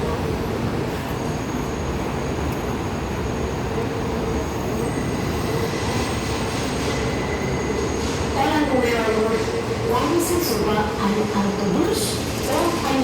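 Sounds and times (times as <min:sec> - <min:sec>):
subway train rumbling on track: 0:00.0 - 0:13.0.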